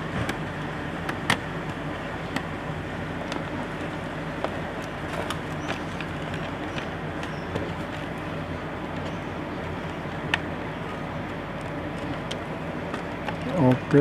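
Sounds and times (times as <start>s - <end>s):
background hum and hiss: 0.0s - 14.0s.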